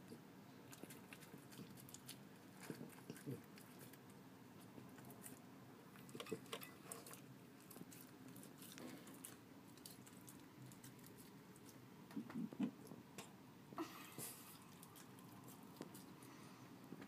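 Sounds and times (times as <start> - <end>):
dog chewing: 0.0 - 11.8, 14.4 - 16.4.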